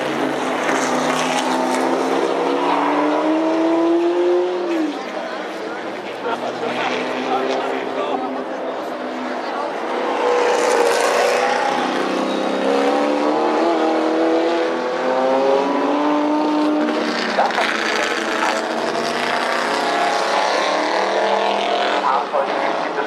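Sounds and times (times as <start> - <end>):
racing car engines: 0.0 - 23.0.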